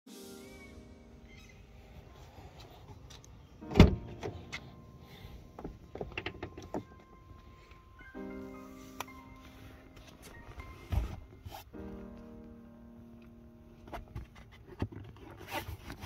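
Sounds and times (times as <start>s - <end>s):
background music: 0.1s - 14.8s.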